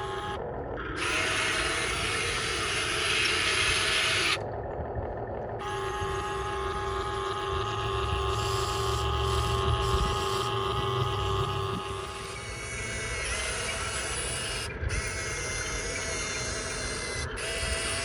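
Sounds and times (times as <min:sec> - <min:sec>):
hydraulic pump whine: 0:00.0 - 0:18.0.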